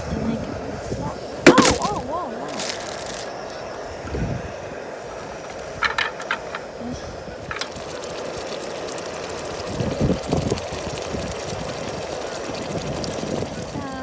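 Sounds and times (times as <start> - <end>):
gusty wind buffeting microphone: 0.0 - 8.5, 9.4 - 14.0.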